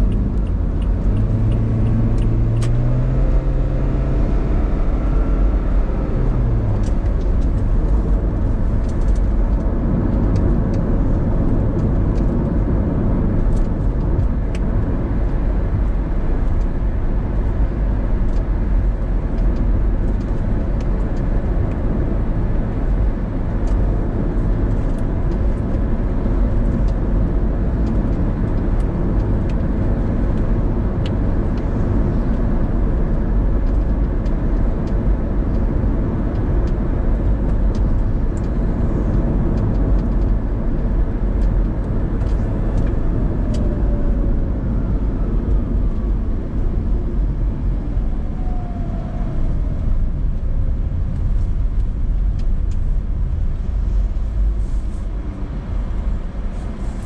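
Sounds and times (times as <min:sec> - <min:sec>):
car engine: 0:00.0 - 0:57.0.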